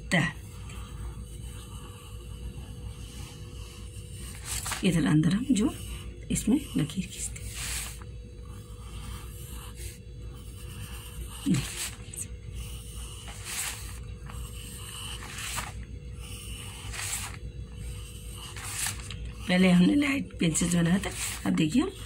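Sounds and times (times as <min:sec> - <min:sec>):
pencil scratching on paper: 0:00.0 - 0:22.0
steady low hum: 0:00.0 - 0:22.0.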